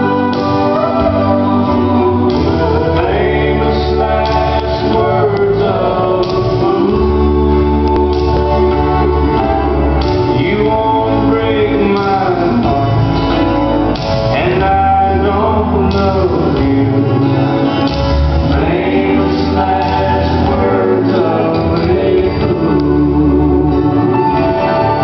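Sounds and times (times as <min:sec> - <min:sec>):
person singing: 0:00.0 - 0:25.0
waltz music: 0:00.0 - 0:25.0.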